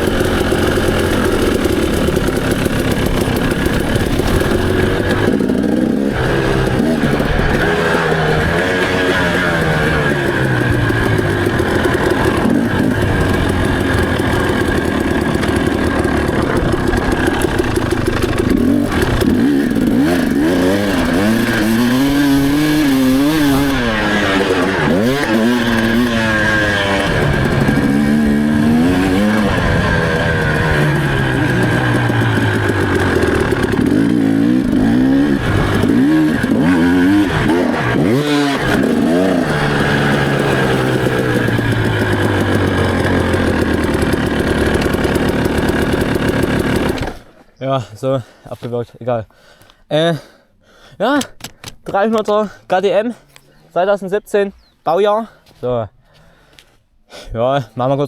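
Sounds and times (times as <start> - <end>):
two-stroke motorcycle engine revving: 0.0 - 47.4.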